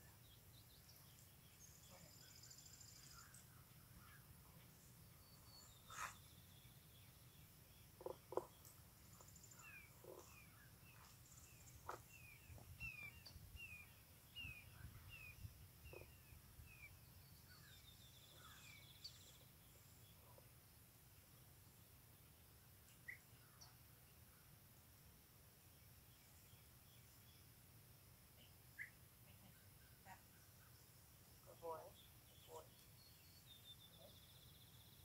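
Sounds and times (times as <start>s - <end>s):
birds chirping: 0.0s - 21.6s, 28.4s - 35.0s.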